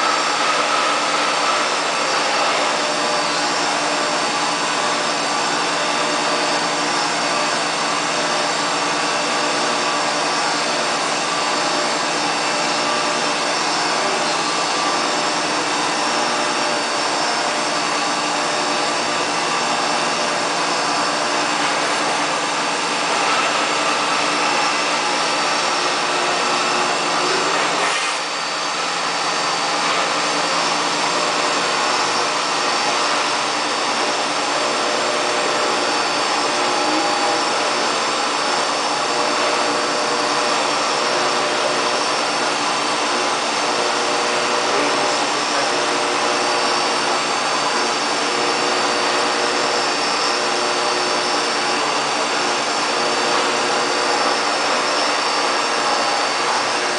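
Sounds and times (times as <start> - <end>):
milling machine cutting metal: 0.0 - 56.9.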